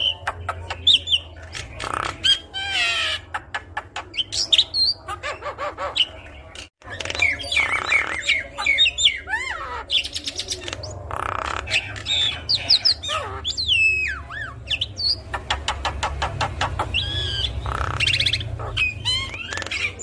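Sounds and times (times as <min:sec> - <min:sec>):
harsh rasping bird calls: 0:00.0 - 0:20.0.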